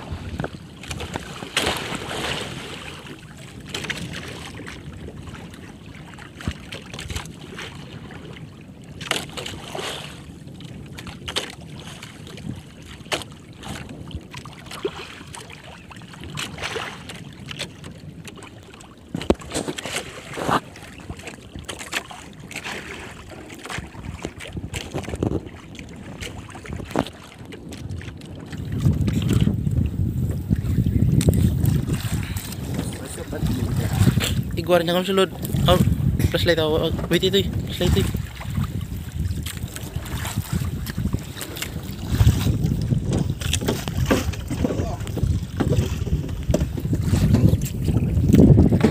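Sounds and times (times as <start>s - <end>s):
water lapping against boat: 0.0s - 48.9s
wind on microphone: 0.0s - 48.9s.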